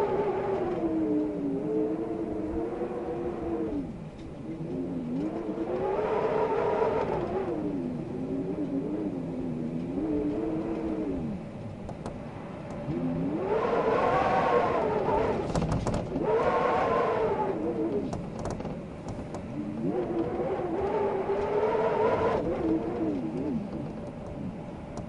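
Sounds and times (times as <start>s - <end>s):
wind howling: 0.0s - 25.0s.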